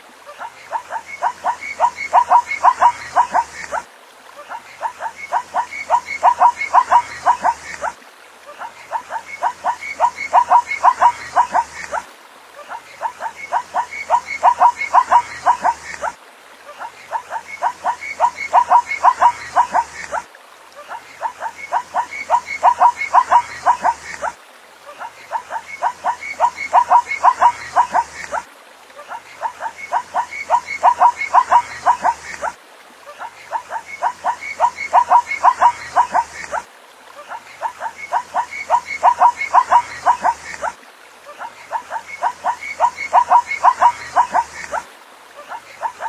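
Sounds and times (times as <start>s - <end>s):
zebra yelping barks: 0.4s - 3.8s, 4.4s - 8.0s, 8.6s - 12.0s, 12.7s - 16.2s, 16.8s - 20.2s, 20.9s - 28.4s, 29.0s - 32.6s, 33.2s - 36.6s, 37.2s - 40.8s, 41.4s - 44.8s, 45.4s - 46.0s.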